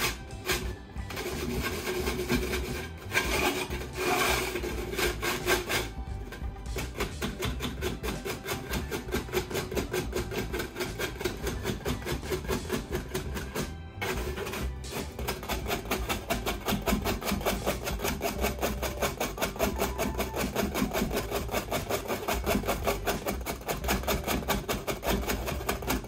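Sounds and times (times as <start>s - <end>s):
background music: 0.0s - 26.0s
whisk scraping metal mesh strainer: 0.0s - 26.0s.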